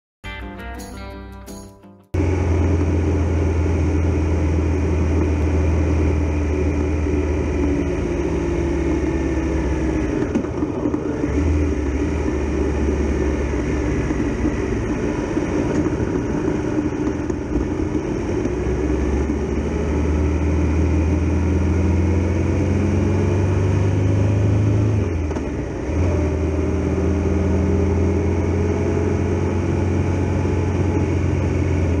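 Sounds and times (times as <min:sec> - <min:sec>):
motorcycle engine running: 0:02.2 - 0:32.0
road and wind noise: 0:02.2 - 0:32.0.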